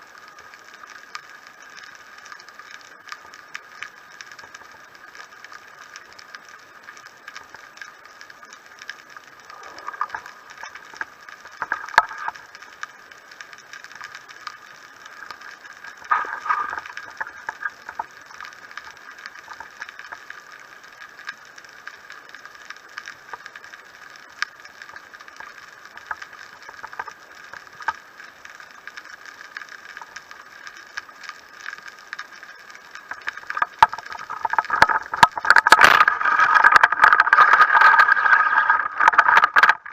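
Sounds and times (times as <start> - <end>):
underwater hum: 0.0 - 39.9
faint underwater clicking: 0.1 - 39.9.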